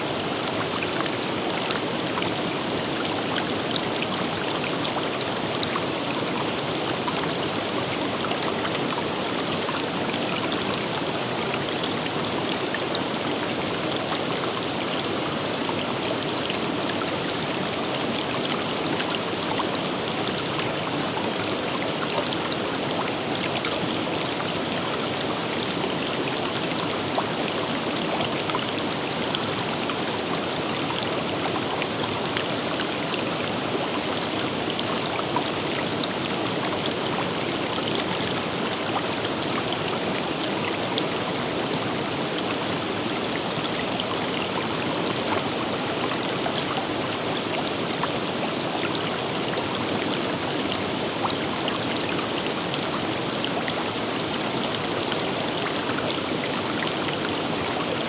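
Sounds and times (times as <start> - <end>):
river flowing over stones: 0.0 - 58.0
water splashes and trickles: 0.0 - 58.0.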